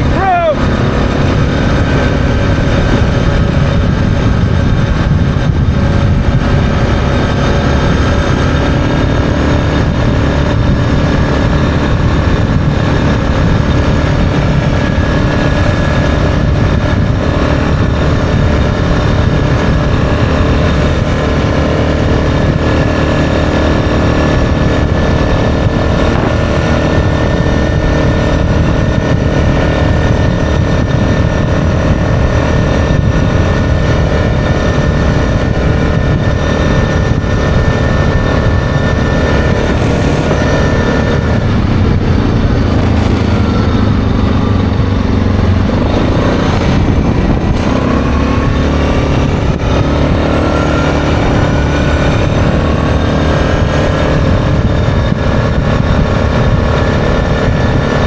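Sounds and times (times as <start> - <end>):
atv engine running steadily: 0.0 - 58.0.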